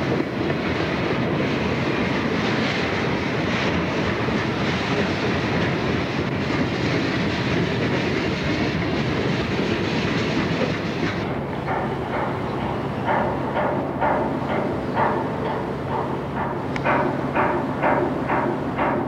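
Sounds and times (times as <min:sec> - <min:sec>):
train wheels running over rails: 0:00.0 - 0:19.0.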